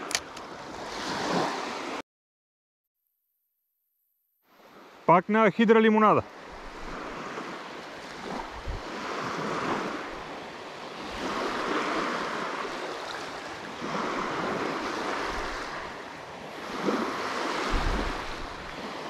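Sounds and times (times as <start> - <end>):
sea waves washing in: 0.0 - 2.0, 4.5 - 19.0.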